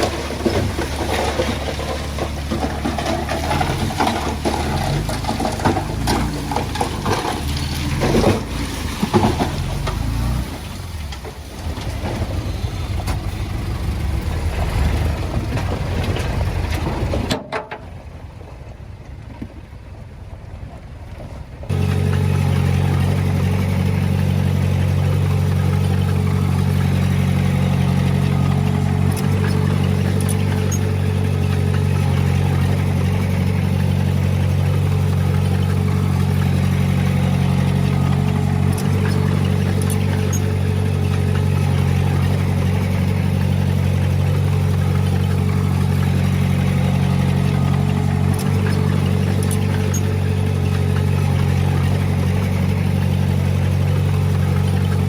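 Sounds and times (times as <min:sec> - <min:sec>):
heavy diesel engine droning: 0:00.0 - 0:19.1, 0:21.6 - 0:55.0.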